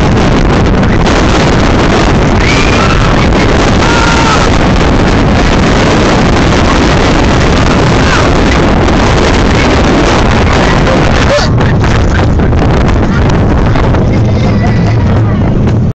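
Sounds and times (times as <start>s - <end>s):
roller coaster rumbling on track: 0.0s - 15.9s
wind roar on microphone: 0.0s - 15.9s.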